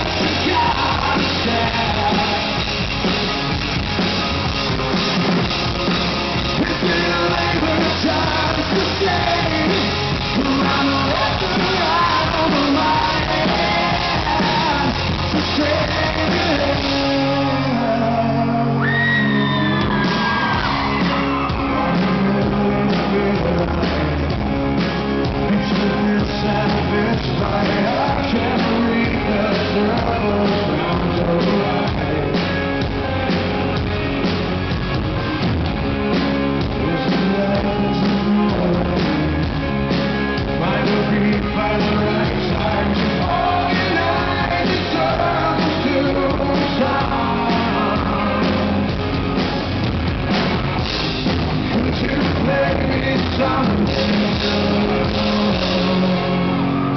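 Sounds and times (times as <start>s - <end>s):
male lead vocal: 0.0s - 3.1s, 6.4s - 33.8s, 36.6s - 49.6s, 51.6s - 56.9s
distorted electric guitar: 0.0s - 56.9s
drum kit: 0.0s - 56.9s
live rock band: 0.0s - 56.9s.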